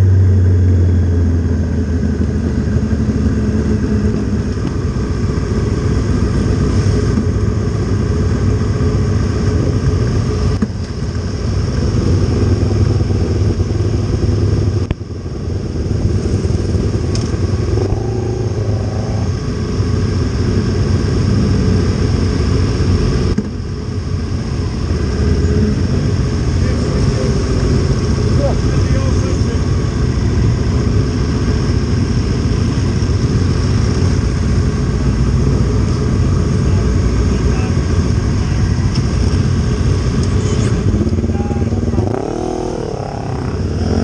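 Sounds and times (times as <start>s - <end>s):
other motorcycle engines running: 0.0s - 44.0s
motorcycle engine idling: 1.5s - 22.6s, 23.6s - 44.0s.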